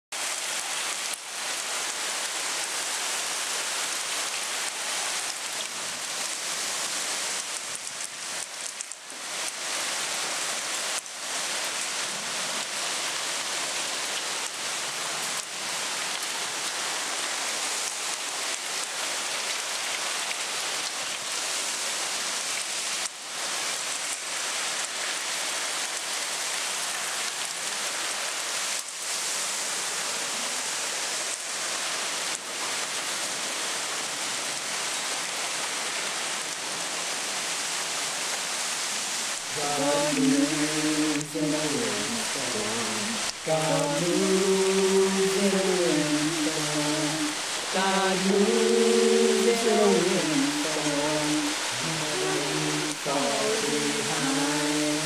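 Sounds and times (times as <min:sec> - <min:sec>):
heavy rain pouring: 0:00.1 - 0:55.0.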